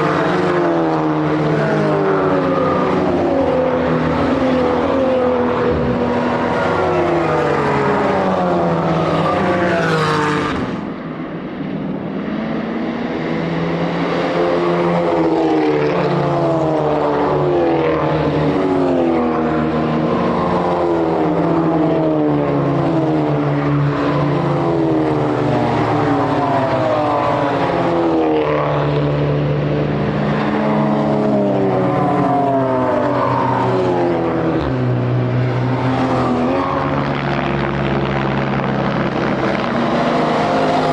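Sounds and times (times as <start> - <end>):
racing car engines at full throttle: 0.0 - 40.9.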